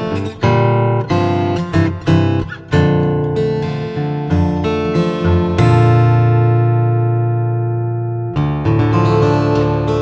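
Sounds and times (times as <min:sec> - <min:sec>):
acoustic guitar chord strummed: 0:00.0 - 0:10.0.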